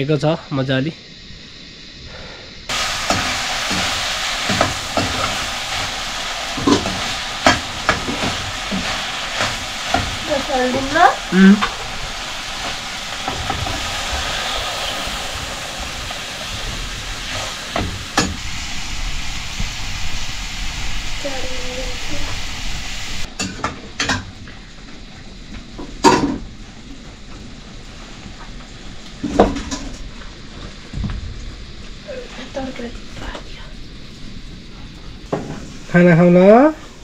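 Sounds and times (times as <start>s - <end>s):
curry sizzling in a pan: 2.7s - 37.0s.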